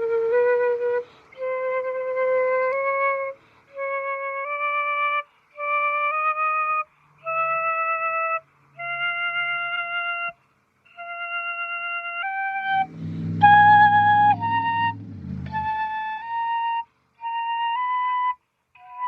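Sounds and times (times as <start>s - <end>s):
flute playing held notes: 0.0s - 19.0s.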